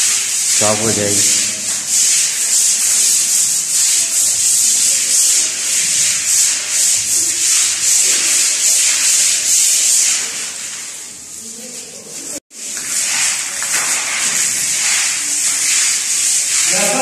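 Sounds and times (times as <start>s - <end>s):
brooms scrubbing wet concrete: 0.0s - 17.0s.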